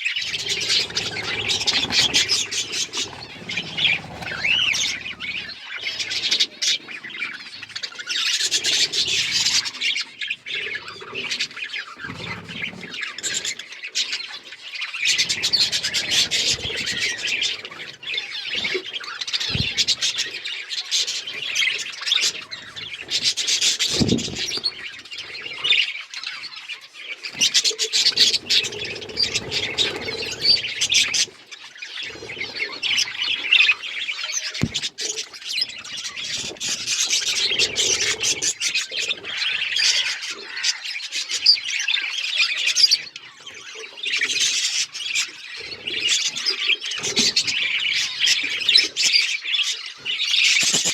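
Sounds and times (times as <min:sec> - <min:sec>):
budgerigars chattering and chirping: 0:00.0 - 0:50.9.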